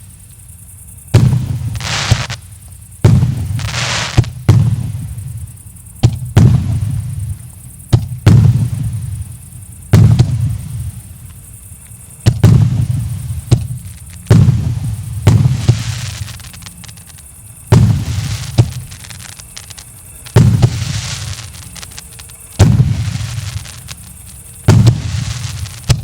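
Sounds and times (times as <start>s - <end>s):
firework bangs: 1.1s - 9.3s, 9.9s - 11.1s, 12.2s - 26.0s.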